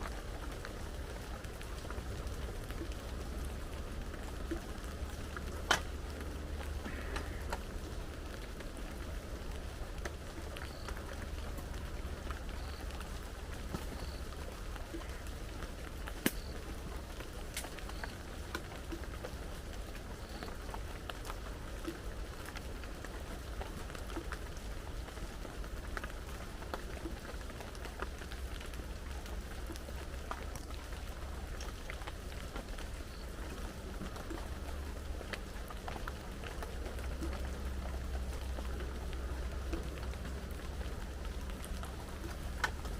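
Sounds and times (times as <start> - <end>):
heavy rain falling: 0.0 - 42.9
sharp raindrop ticks: 0.0 - 42.9.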